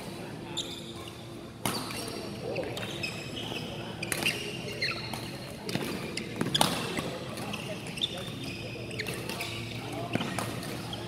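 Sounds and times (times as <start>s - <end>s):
shoes squeaking on court: 0.5s - 11.0s.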